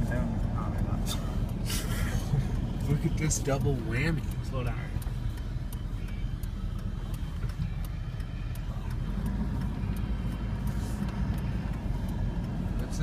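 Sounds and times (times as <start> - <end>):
engine and road rumble: 0.0 - 13.0
faint regular ticking: 0.0 - 13.0.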